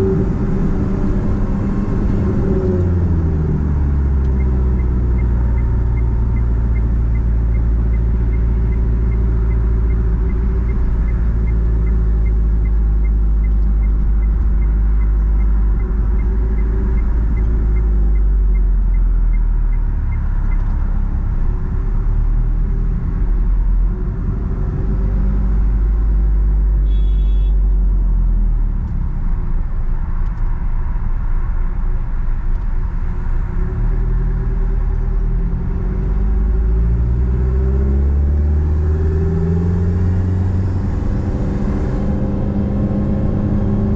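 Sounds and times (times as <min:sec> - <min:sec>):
deep exhaust drone of car engine: 0:00.0 - 0:43.9.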